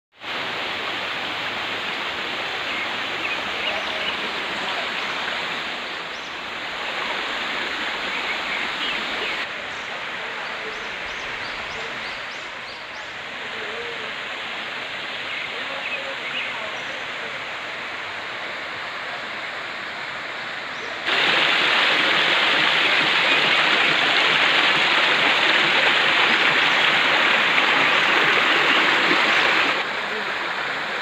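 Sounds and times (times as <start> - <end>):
waterfall rushing over rocks: 0.2 - 31.0.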